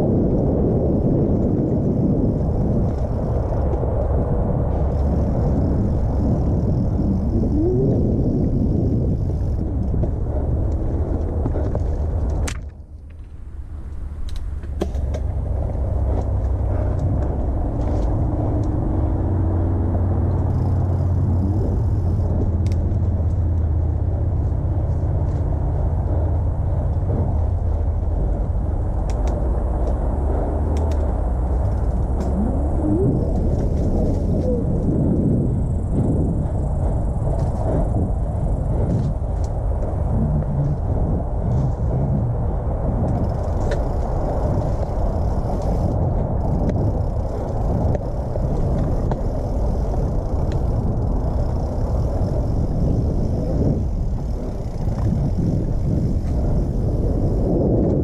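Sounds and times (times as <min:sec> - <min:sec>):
bike clicks and rattles: 0:00.0 - 0:58.0
bike tyres rumbling on dirt: 0:00.0 - 0:58.0.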